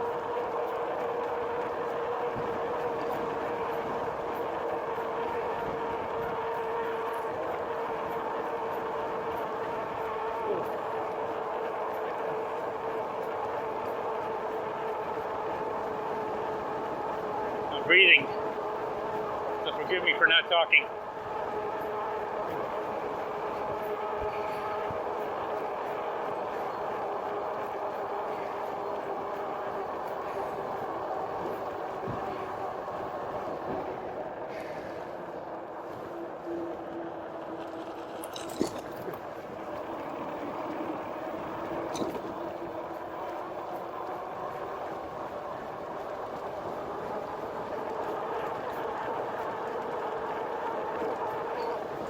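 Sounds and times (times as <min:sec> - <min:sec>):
electric motor and tyre hum: 0:00.0 - 0:52.0.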